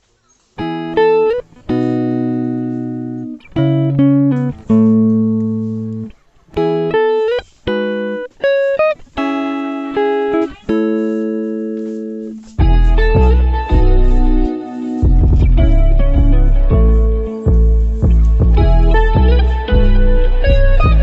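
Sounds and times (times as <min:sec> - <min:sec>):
guitar chords ringing: 0:00.6 - 0:21.0.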